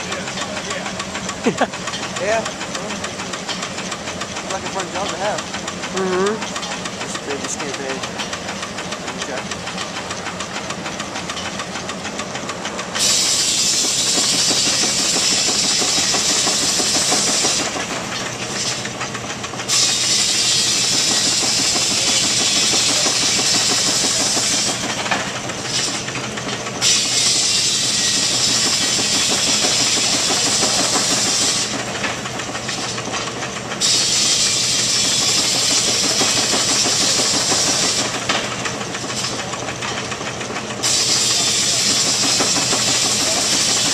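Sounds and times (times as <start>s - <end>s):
loud steam hissing: 0.0s - 43.9s
steam engine rapid beat: 0.0s - 43.9s.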